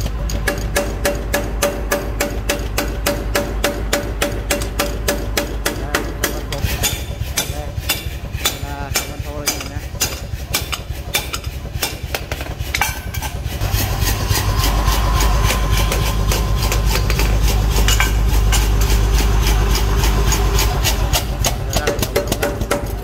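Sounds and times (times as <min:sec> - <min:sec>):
hammer striking metal on anvil: 0:00.0 - 0:23.0
low machine hum: 0:00.0 - 0:23.0.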